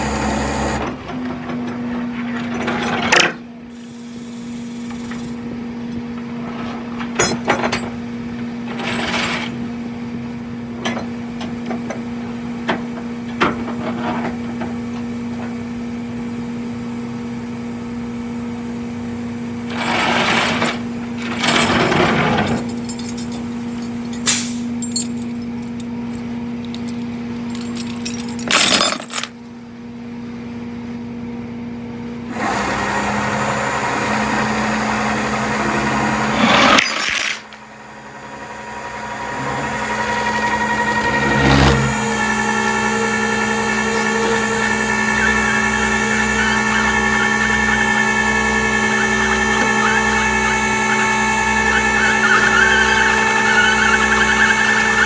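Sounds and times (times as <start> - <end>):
vehicle engine humming: 3.5 - 36.7, 37.4 - 55.0.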